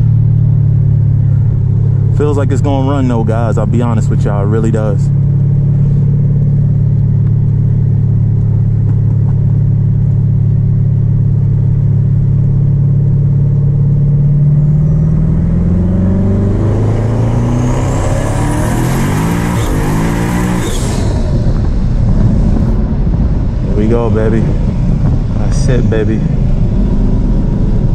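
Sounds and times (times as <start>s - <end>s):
car engine revving: 0.0s - 27.9s
high whine rising: 0.0s - 27.9s.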